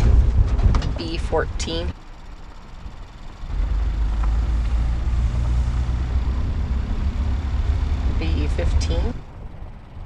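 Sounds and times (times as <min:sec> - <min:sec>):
vehicle driving on dirt road: 0:00.0 - 0:10.0.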